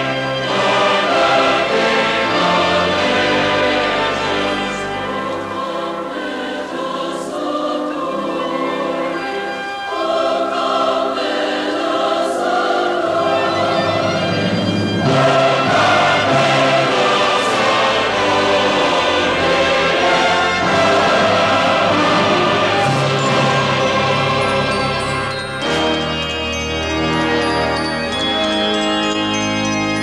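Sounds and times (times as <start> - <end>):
choir singing sustained notes: 0.0 - 30.0
orchestral accompaniment: 0.0 - 30.0.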